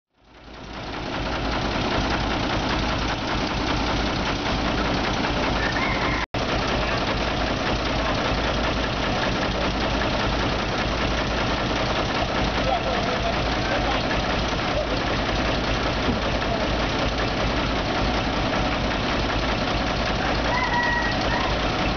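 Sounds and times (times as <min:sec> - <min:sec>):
dump truck idling: 0:00.2 - 0:21.9
mini excavator engine working: 0:00.2 - 0:21.9.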